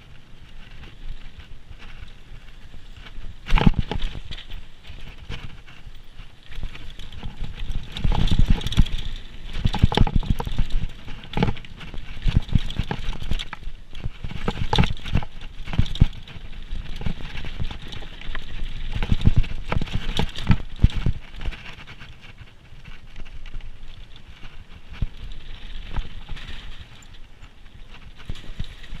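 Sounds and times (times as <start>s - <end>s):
mountain bike clattering: 0.0s - 29.0s.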